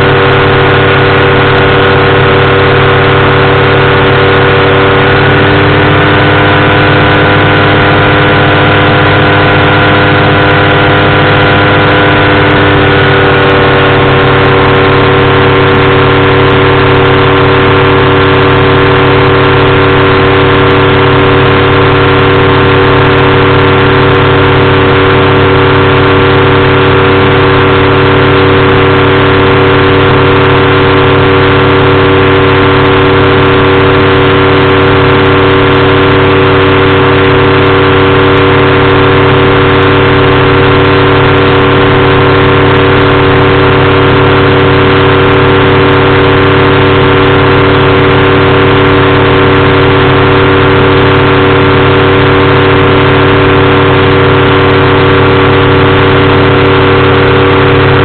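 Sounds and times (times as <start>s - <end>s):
engine and propeller running: 0.0s - 58.0s.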